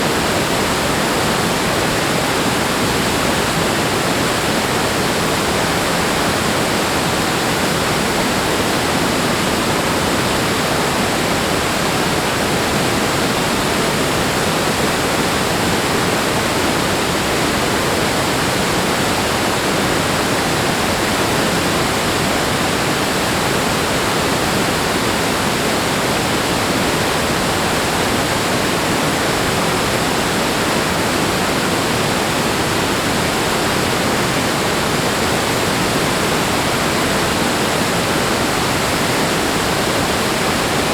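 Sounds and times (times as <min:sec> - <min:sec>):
rushing water roar: 0:00.0 - 0:40.9.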